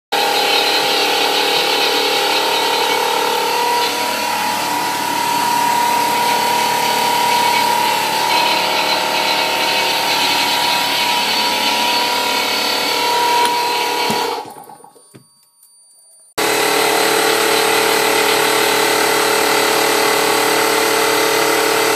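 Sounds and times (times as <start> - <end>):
machine rushing with constant whine: 0.2 - 14.4, 16.4 - 21.9.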